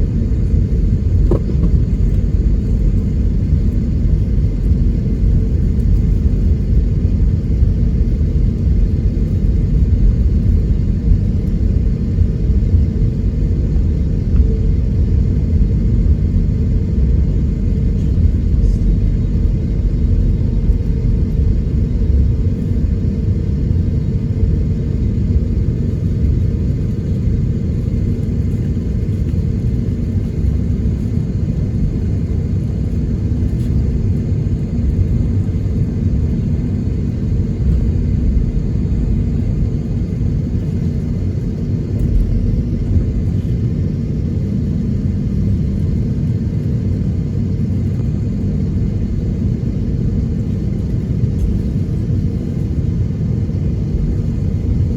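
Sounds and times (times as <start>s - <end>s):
airliner cabin rumble while taxiing: 0.0s - 54.9s.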